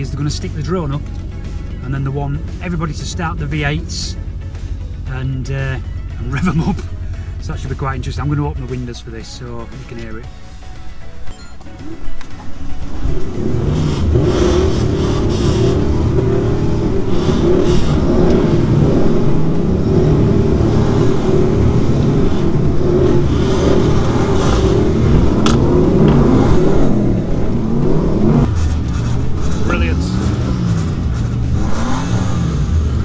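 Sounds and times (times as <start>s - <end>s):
engines revving: 0.0s - 9.9s, 11.8s - 33.0s
car engines idling: 0.0s - 33.0s.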